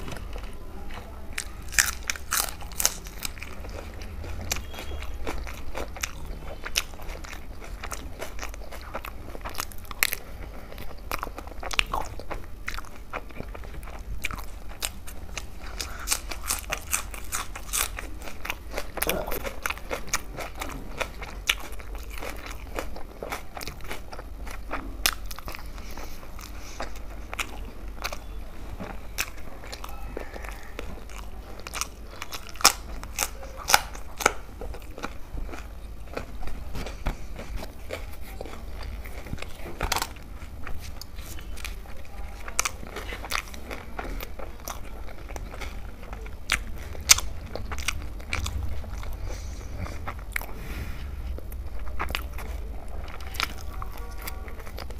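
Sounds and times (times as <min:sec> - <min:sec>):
person chewing bread: 0:00.0 - 0:54.9.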